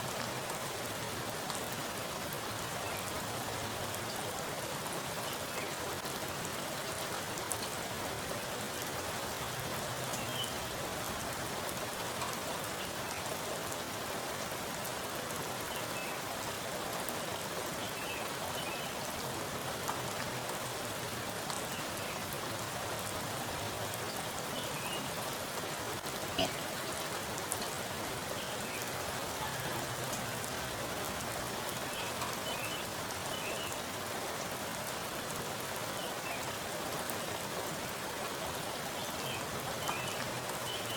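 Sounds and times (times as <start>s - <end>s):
heavy rain on standing water: 0.0s - 40.9s.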